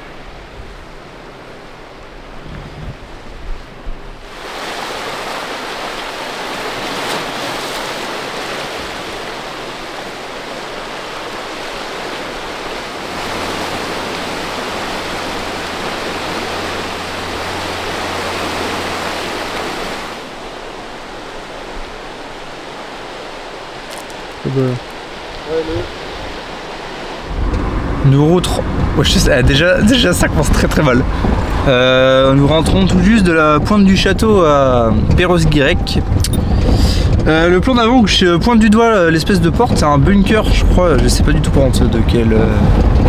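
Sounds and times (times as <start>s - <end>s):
outboard motor droning: 0.0s - 43.0s
sea surf against rocks: 0.0s - 43.0s.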